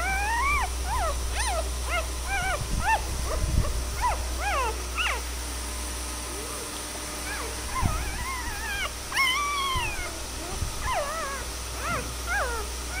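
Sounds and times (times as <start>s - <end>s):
puppies whimpering and squealing: 0.0s - 5.3s, 7.2s - 13.0s.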